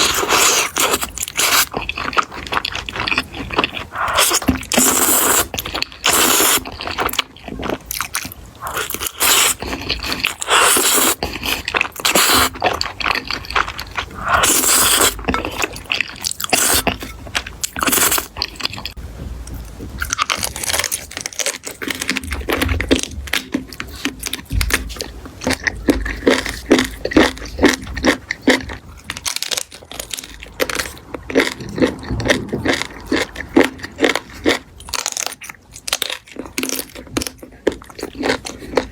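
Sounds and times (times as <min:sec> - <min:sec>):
crunchy food chewing: 0:00.0 - 0:38.9.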